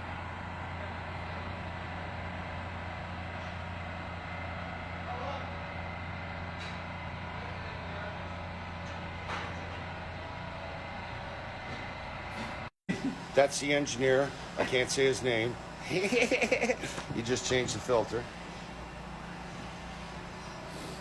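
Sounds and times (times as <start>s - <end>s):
engine-room machinery drone: 0.0s - 21.0s.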